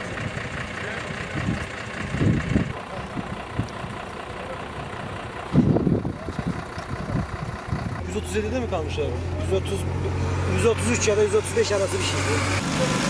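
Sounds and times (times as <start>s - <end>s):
vehicle engine idling: 0.0s - 12.9s
low rumbles: 0.0s - 13.0s
roadside noise: 0.0s - 13.0s.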